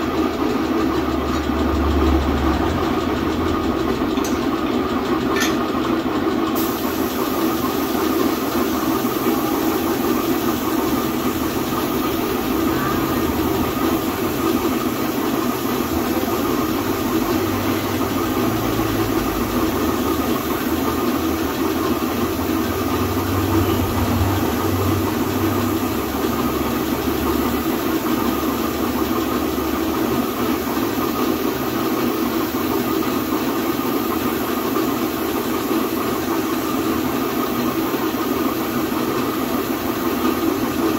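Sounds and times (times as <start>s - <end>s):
air compressor motor running: 0.0s - 40.9s
spray gun hissing: 6.5s - 40.9s.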